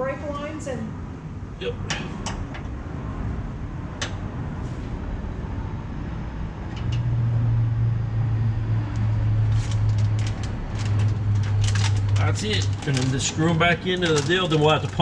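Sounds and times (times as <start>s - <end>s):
loud low hum: 0.0s - 13.8s
low mechanical rumble: 0.0s - 15.0s.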